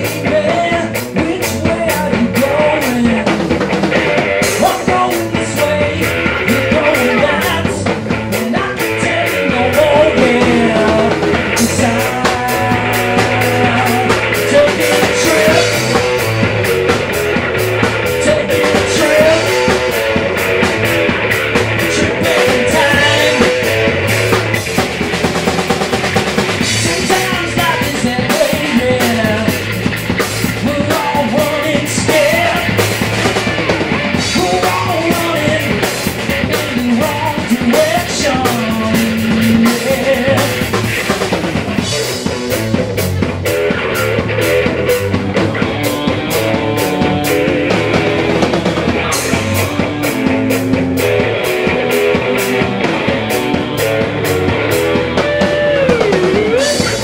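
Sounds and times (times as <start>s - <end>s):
person singing: 0.0s - 17.0s, 17.6s - 21.2s, 21.8s - 24.3s, 26.6s - 29.8s, 30.5s - 41.1s, 45.4s - 57.0s
live rock band playing: 0.0s - 57.0s.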